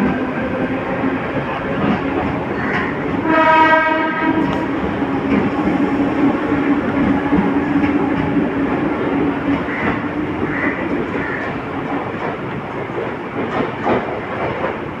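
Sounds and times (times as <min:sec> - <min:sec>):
train wheels clattering over rail joints: 0:01.8 - 0:14.9.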